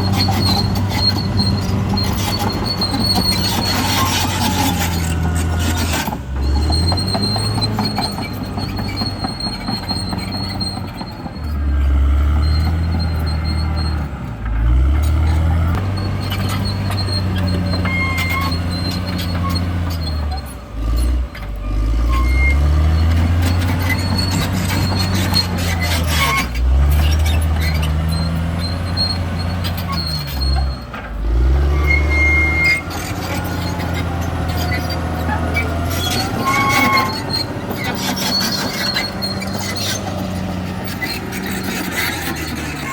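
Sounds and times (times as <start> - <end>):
bulldozer diesel engine under load: 0.0 - 42.9
high squeals of metal rubbing: 0.0 - 42.9.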